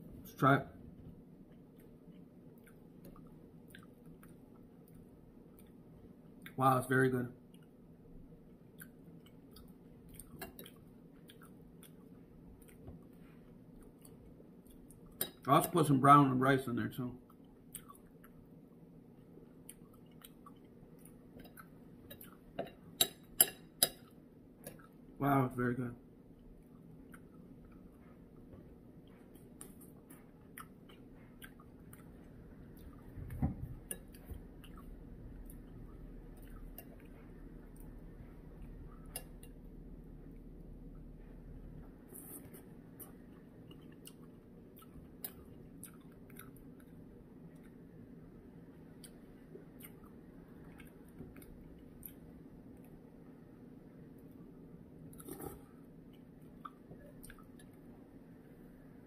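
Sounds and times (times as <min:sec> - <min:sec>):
low steady hum: 0:00.0 - 0:59.0
person chewing: 0:01.4 - 0:06.6, 0:08.4 - 0:15.5, 0:17.2 - 0:25.1, 0:26.4 - 0:33.2, 0:33.8 - 0:40.5, 0:41.8 - 0:53.3, 0:54.2 - 0:57.9.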